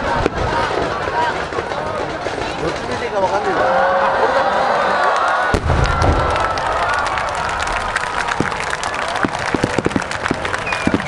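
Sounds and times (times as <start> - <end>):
crowd shouting and cheering: 0.0 - 11.0.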